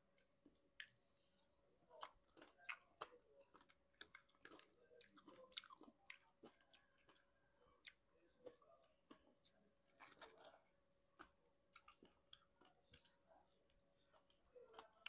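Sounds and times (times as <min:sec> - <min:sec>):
person chewing strawberries: 0:00.0 - 0:15.0.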